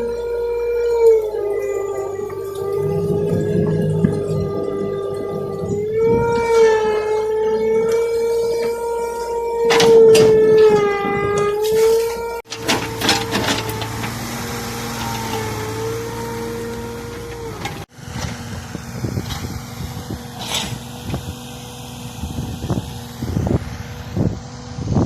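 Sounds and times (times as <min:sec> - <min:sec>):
machine whine: 0:00.0 - 0:11.6, 0:12.4 - 0:25.0
excavator engine drone: 0:00.0 - 0:25.0.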